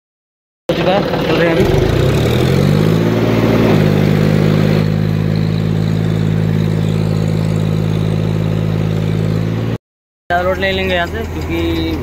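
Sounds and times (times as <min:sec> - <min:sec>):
tractor diesel engine: 0:00.7 - 0:12.0.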